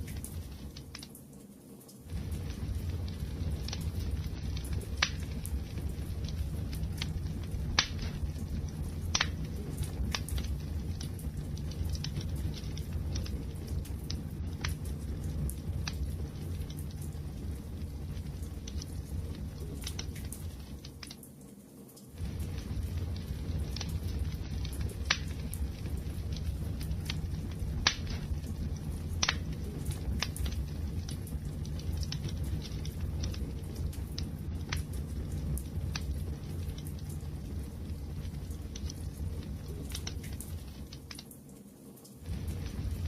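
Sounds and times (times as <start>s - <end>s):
low rumble of burning: 0.0s - 43.0s
wood fire crackling: 0.0s - 43.0s.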